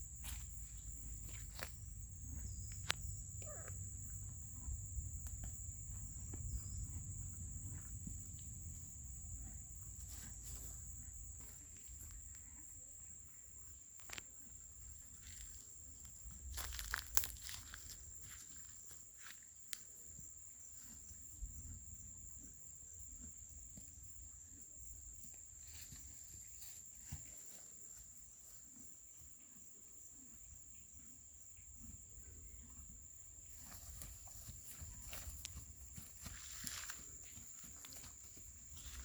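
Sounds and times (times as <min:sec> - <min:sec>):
constant high-pitched tone: 0:00.0 - 0:39.0.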